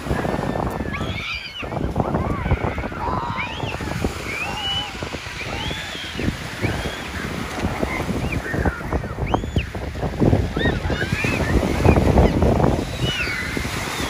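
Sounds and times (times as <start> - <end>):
surf washing on beach: 0.0 - 14.0
wind buffeting microphone: 0.0 - 14.0.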